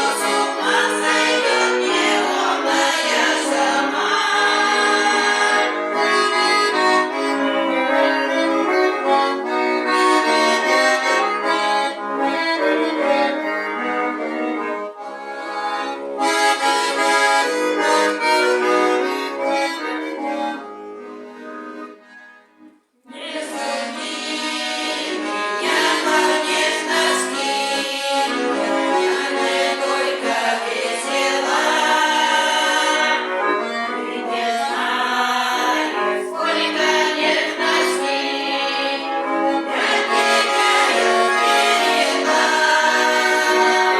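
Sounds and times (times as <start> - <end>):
accordion playing a tune: 0.0 - 43.9.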